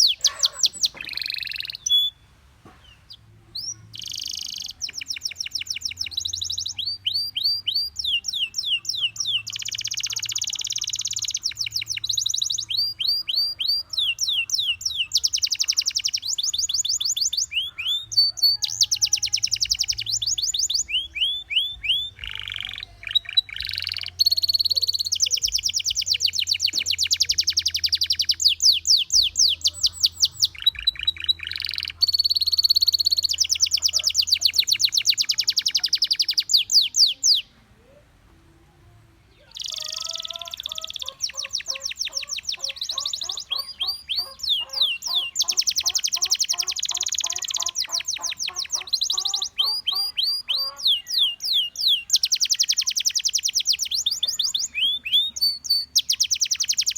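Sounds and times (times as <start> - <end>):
canary singing trills: 0.0 - 38.1, 39.2 - 56.9.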